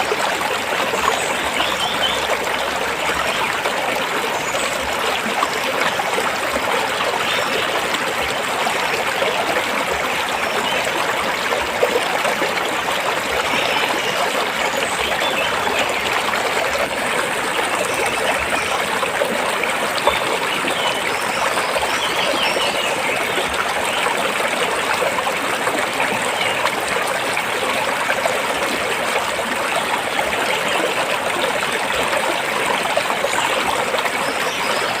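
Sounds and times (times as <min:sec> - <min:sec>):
stream flowing over stones: 0:00.0 - 0:35.0.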